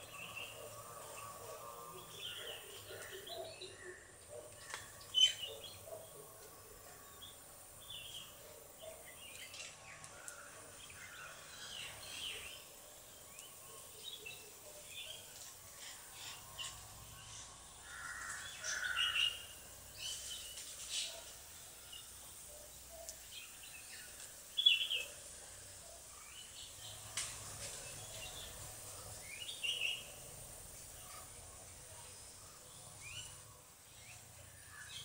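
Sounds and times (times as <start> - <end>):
faint outdoor background: 0.0 - 35.0.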